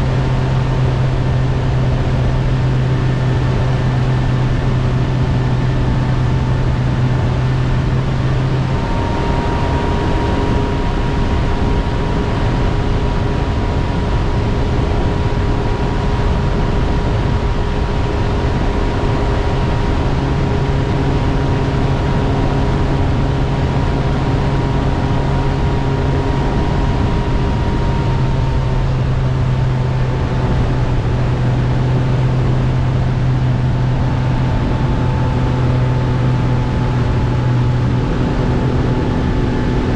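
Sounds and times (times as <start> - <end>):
outboard motor running: 0.0 - 39.9
rush of wind and water: 0.0 - 39.9.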